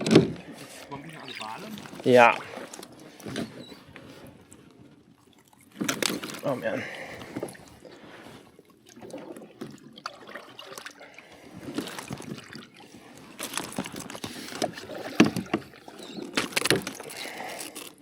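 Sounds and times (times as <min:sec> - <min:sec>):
light water sounds: 0:00.0 - 0:18.0.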